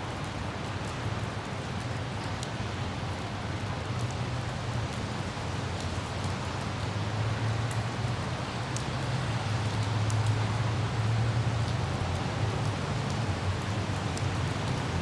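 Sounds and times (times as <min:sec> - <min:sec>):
faint raindrop ticks: 0:00.0 - 0:15.0
hiss of rain: 0:00.0 - 0:15.0.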